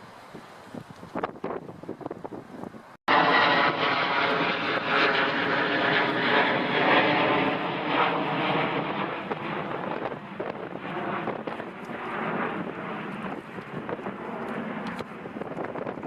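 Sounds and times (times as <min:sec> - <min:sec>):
airliner engines droning: 0:02.1 - 0:16.0.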